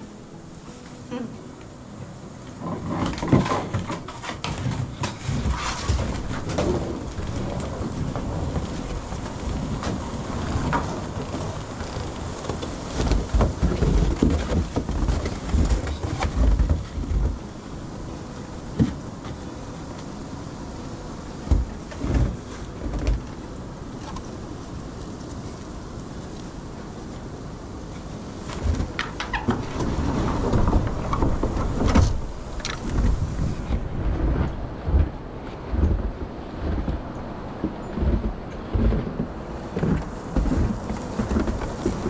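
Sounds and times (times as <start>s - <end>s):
scattered knocks and rustles: 0.0s - 42.0s
wind buffeting microphone: 0.0s - 42.0s.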